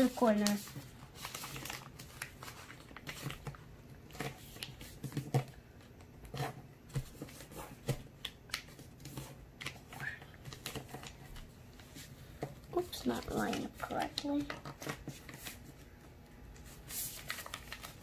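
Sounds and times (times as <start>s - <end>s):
paper rustling as folded: 0.0s - 5.6s, 6.2s - 12.2s, 12.8s - 15.9s, 16.5s - 18.0s.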